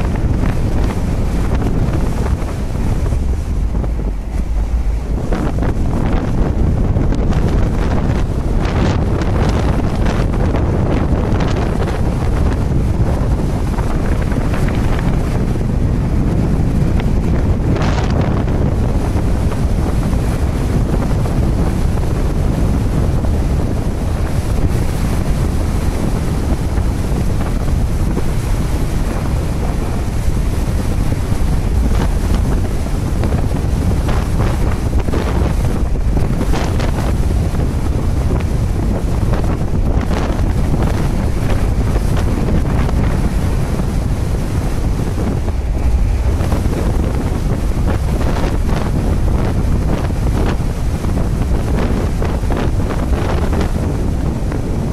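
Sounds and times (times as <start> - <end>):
sea water rushing along hull: 0.0 - 54.9
strong wind buffeting microphone: 0.0 - 54.9.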